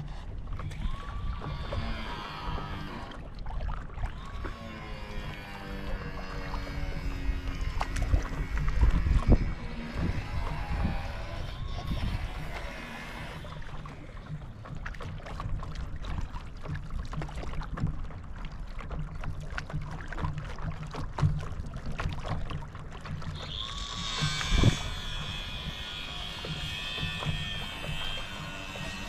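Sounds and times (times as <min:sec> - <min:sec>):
water splashing and lapping: 0:00.0 - 0:29.0.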